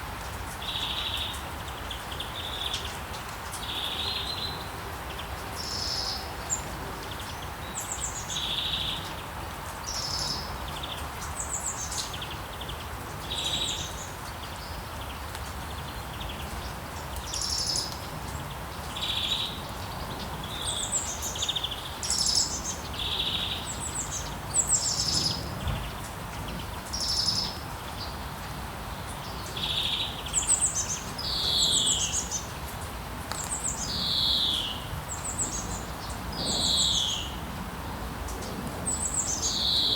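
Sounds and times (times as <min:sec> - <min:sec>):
rain hiss: 0:00.0 - 0:39.9
songbirds chirping: 0:00.0 - 0:39.9
town background noise: 0:00.0 - 0:39.9.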